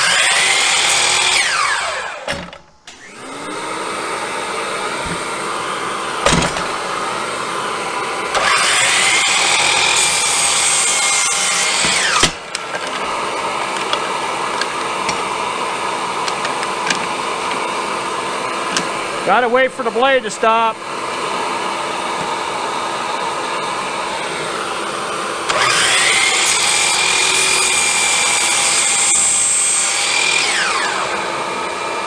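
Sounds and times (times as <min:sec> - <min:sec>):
miter saw motor whining: 0:00.0 - 0:32.0.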